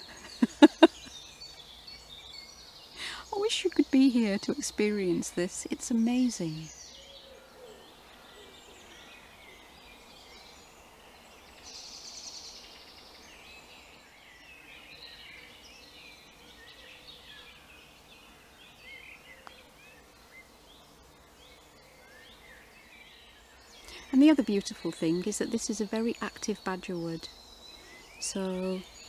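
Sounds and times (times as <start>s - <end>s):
small birds singing: 0.0s - 29.0s.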